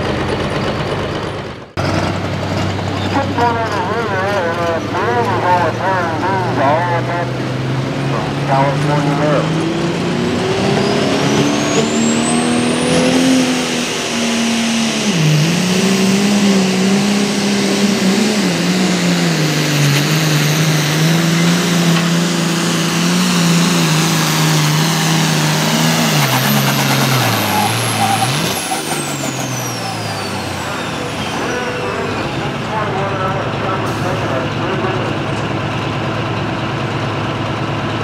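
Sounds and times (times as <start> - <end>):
tractor engine under load: 0.0 - 13.9, 15.6 - 38.0
turbocharger whine: 0.0 - 38.0.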